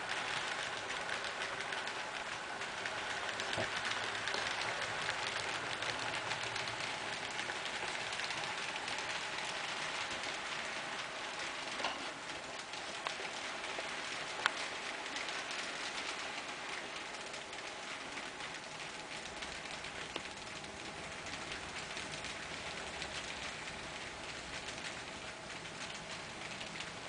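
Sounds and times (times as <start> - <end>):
model train wheels rattling: 0.0 - 27.0.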